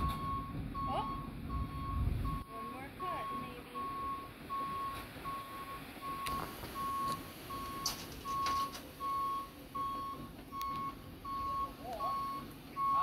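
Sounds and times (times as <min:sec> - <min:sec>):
truck reversing alarm beeping: 0:00.0 - 0:13.0.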